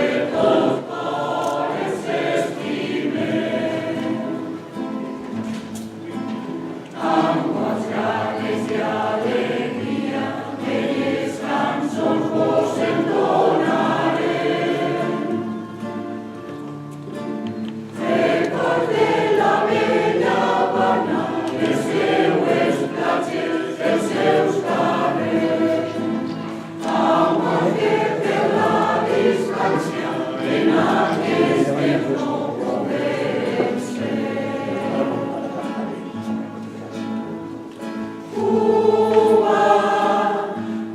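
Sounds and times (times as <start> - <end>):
choir singing: 0.0 - 5.5, 6.1 - 16.4, 17.8 - 40.9.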